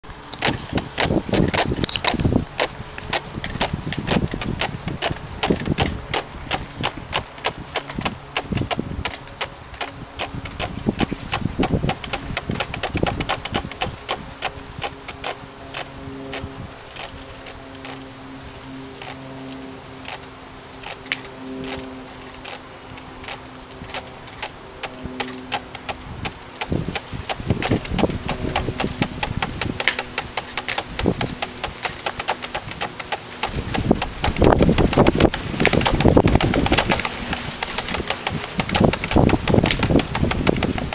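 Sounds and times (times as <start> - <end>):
rapid dry clicking: 0.0 - 18.2, 18.9 - 40.9.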